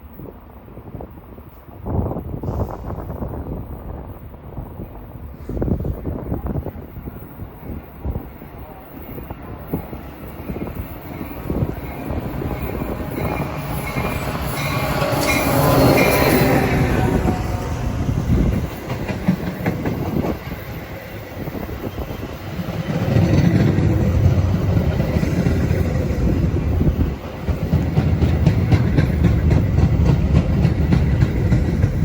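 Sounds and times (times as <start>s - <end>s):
commuter train rumbling on tracks: 0.0s - 32.0s.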